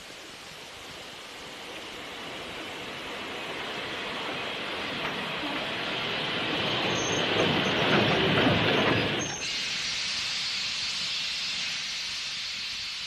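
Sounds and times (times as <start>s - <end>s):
steady hiss: 0.0s - 13.0s
train rumbling on rails: 0.8s - 13.0s.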